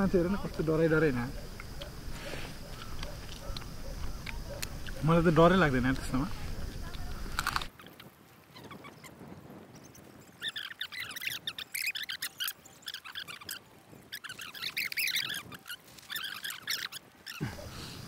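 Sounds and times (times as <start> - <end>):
small birds twittering: 0.0 - 18.0.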